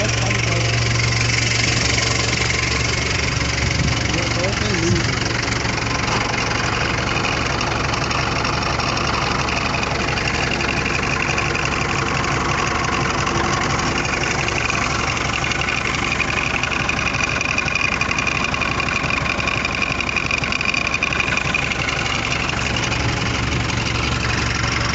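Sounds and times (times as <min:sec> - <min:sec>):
forklift engine idling: 0:00.0 - 0:24.9.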